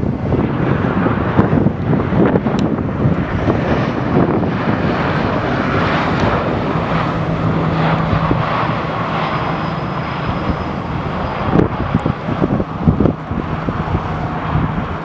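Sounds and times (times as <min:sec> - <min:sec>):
jet engines rushing: 0:00.0 - 0:15.0
steady low hum: 0:00.0 - 0:15.0.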